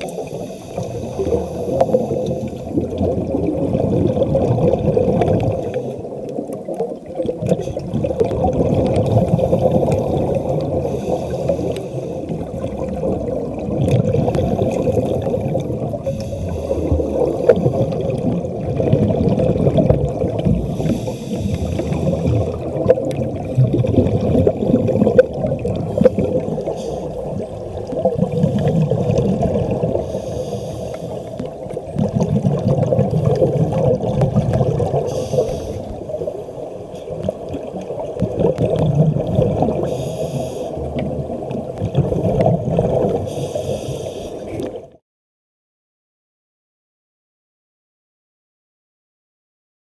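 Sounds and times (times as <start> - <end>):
underwater air bubbling: 0.0 - 45.0.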